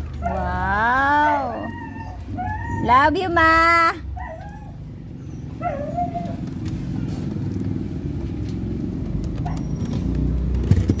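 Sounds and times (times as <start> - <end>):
low motor rumble: 0.0 - 11.0.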